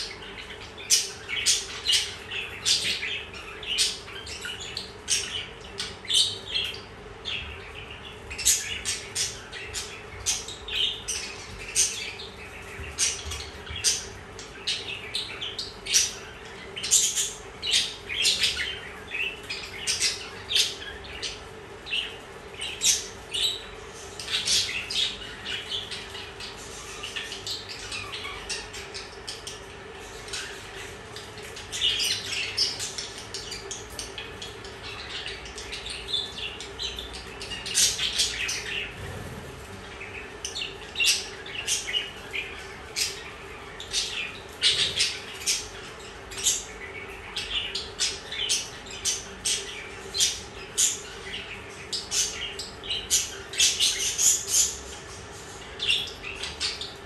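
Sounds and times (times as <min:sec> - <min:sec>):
budgerigars chirping: 0:00.0 - 0:57.0
faint steady hum: 0:00.0 - 0:57.0.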